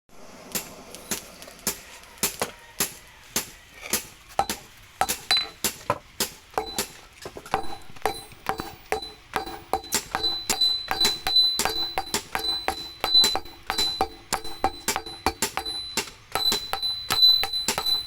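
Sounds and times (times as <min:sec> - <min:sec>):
hammer striking steel on anvil: 0:00.5 - 0:18.0.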